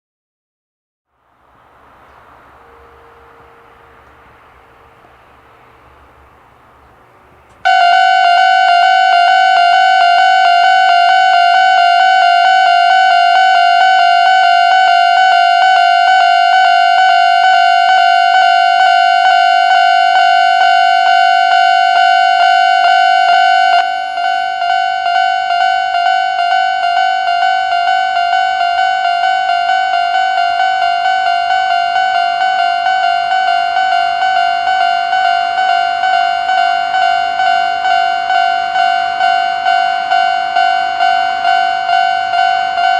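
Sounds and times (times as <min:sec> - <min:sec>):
level crossing alarm ringing: 0:02.2 - 0:42.9.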